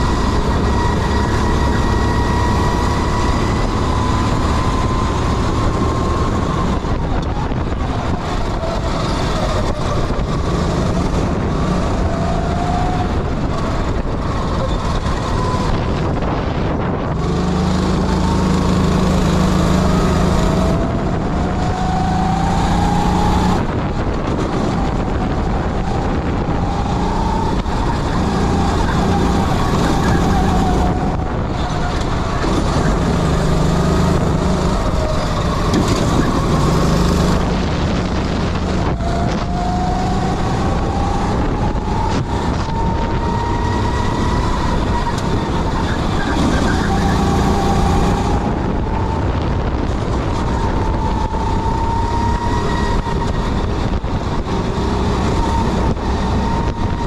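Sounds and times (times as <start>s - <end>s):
kart engine running: 0.0s - 57.0s.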